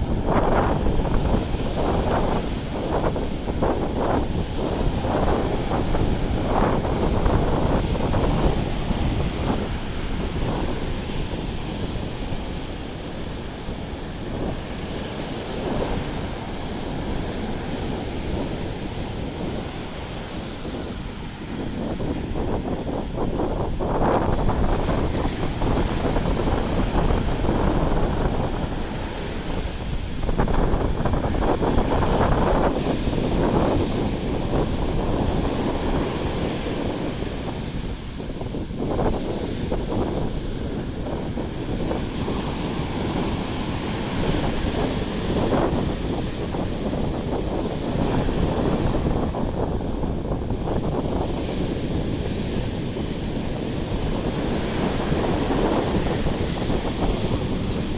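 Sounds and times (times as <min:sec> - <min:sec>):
sea waves washing onto beach: 0:00.0 - 0:57.9
wind rumbling on microphone: 0:00.0 - 0:57.9.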